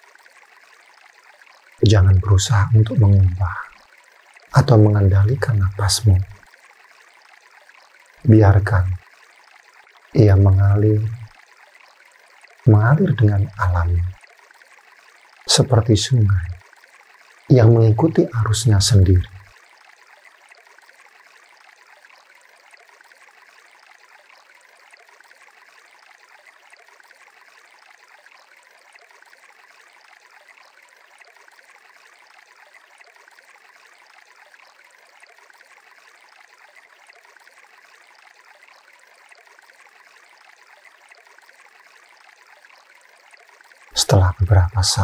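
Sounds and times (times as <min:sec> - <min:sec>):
flowing water: 0:00.0 - 0:45.0.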